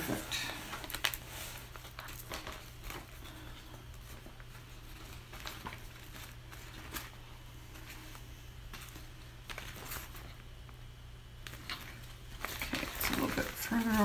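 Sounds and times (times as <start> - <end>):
plastic sheeting rustling: 0.0 - 10.6, 11.4 - 14.0
steady low hum: 0.0 - 14.0.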